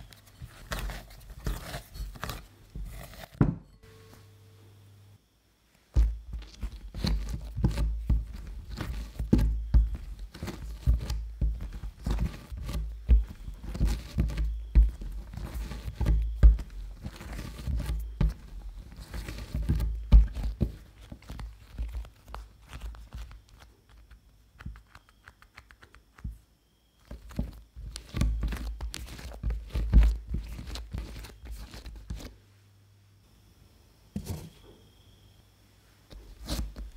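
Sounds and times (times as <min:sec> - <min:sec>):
dough being kneaded by hand: 0:00.0 - 0:03.8, 0:05.8 - 0:26.4, 0:27.0 - 0:32.4, 0:36.1 - 0:36.9.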